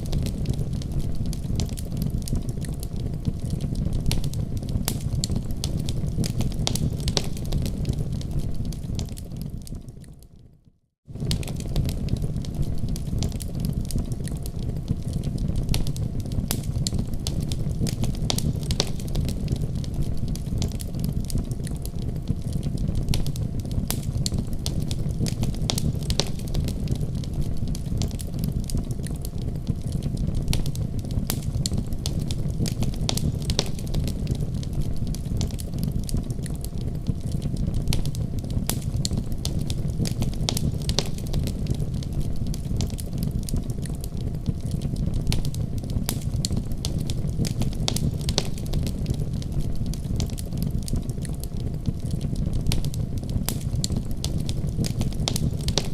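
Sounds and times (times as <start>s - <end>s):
sharp fire pops: 0.0s - 10.2s, 11.0s - 55.9s
low fire rumble: 0.0s - 55.9s
wood fire crackling: 0.0s - 55.9s.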